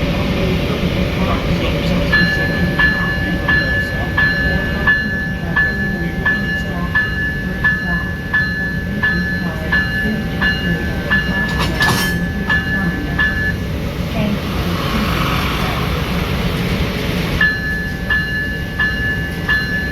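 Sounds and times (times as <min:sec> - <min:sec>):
locomotive bell ringing: 0:00.0 - 0:19.9
low rumble of locomotive: 0:00.0 - 0:19.9.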